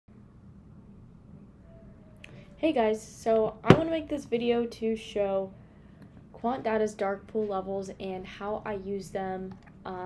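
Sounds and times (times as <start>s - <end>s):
low background hum: 0.1s - 10.0s.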